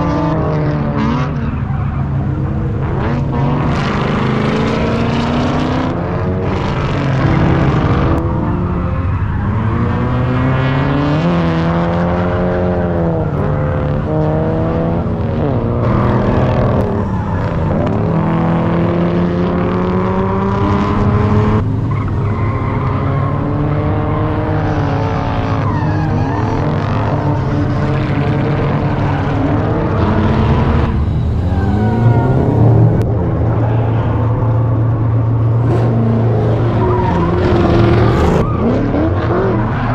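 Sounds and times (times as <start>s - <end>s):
car engines revving: 0.0s - 39.9s
tires skidding and squealing: 0.0s - 39.9s.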